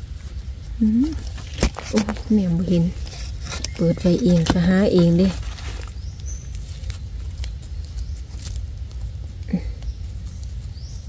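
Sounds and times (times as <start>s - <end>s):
leaf litter clicks and crackles: 0.0s - 11.0s.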